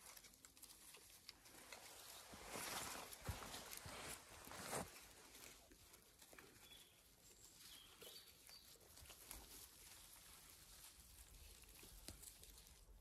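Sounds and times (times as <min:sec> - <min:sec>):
puppies rustling in plants: 0:00.0 - 0:13.0.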